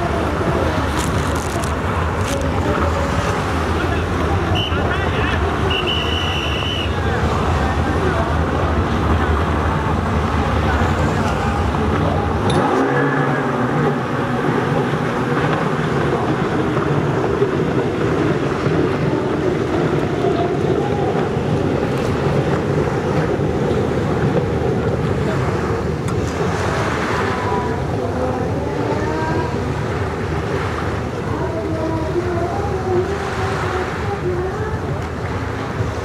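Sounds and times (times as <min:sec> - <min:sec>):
jet ski engines droning: 0:00.0 - 0:36.0
wind noise on microphone: 0:00.0 - 0:36.0.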